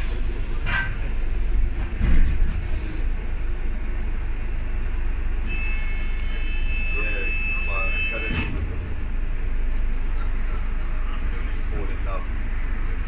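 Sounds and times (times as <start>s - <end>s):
bus engine rumble from inside: 0.0s - 13.0s.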